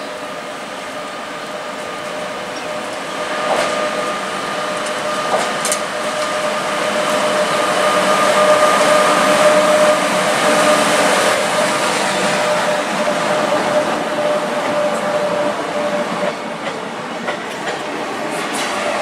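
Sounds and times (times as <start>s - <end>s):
train rushing rumble with hum: 0.0s - 19.0s.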